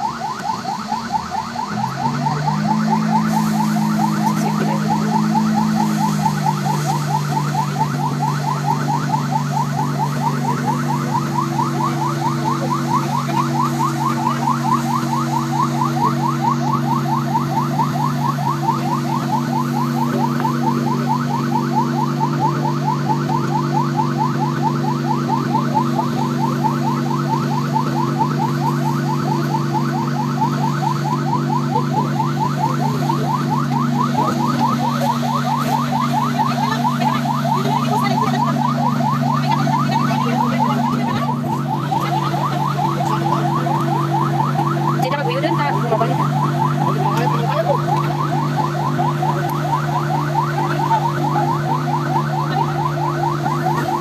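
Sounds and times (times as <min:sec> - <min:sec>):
fire engine siren yelping: 0:00.0 - 0:54.0.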